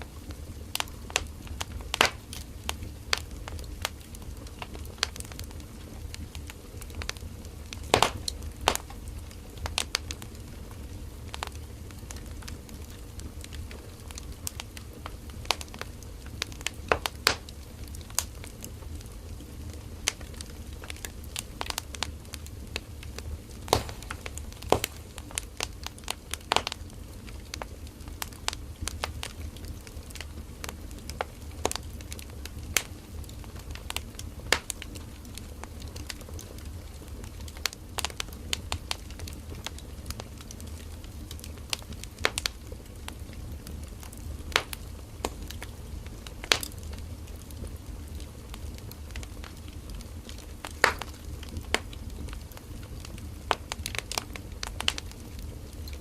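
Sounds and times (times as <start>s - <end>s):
burning wood crackling and popping: 0.0s - 56.0s
low rumble of flames: 0.0s - 56.0s.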